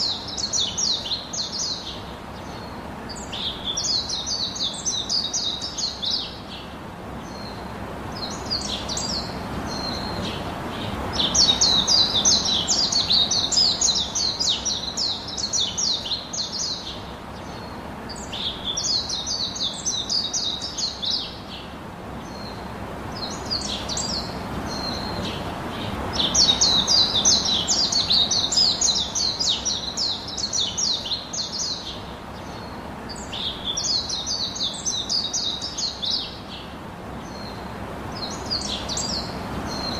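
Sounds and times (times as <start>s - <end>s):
small bird chirping song: 0.0s - 39.9s
soft background rush: 0.0s - 39.9s.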